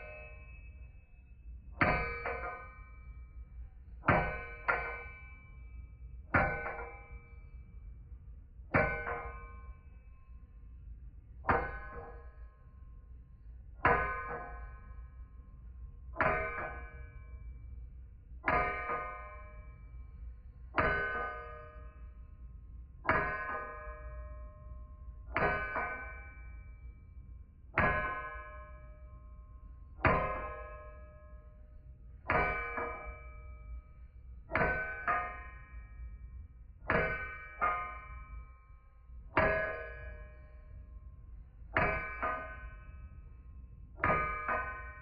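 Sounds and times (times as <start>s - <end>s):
hammer blows on ringing metal: 0.0s - 8.0s, 8.8s - 10.6s, 11.4s - 12.7s, 13.6s - 22.4s, 23.0s - 45.0s.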